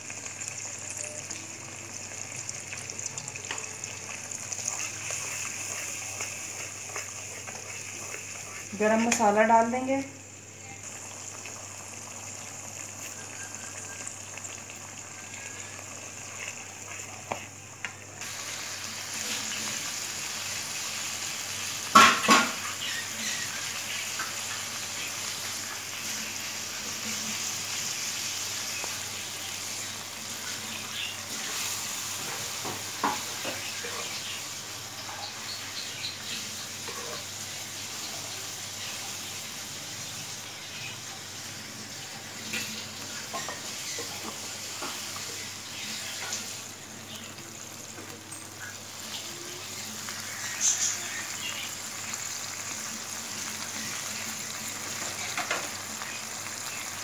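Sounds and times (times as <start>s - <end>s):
masala sizzling in oil: 0.0s - 57.0s.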